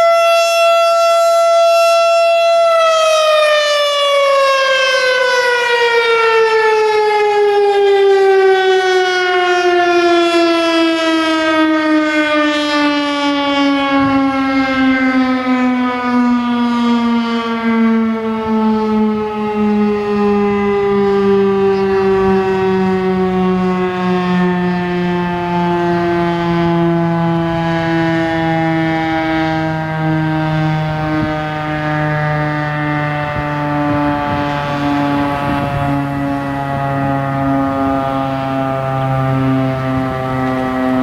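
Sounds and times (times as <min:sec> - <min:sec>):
warning siren winding down: 0:00.0 - 0:41.0.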